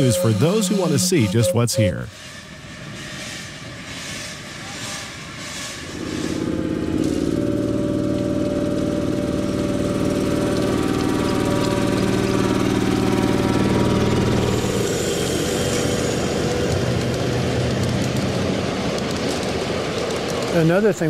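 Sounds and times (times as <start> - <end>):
small locomotive engine running: 0.0 - 21.0.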